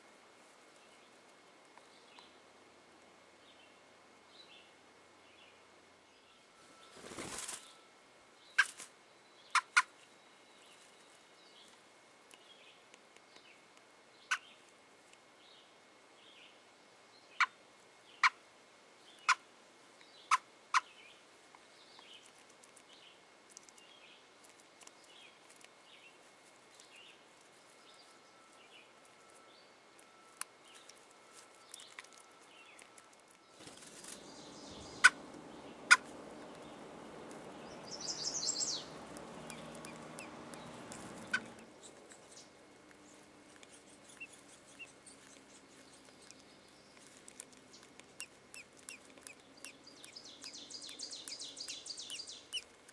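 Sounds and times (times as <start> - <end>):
background hiss: 0.0 - 52.9
faint birds chirping: 0.0 - 52.9.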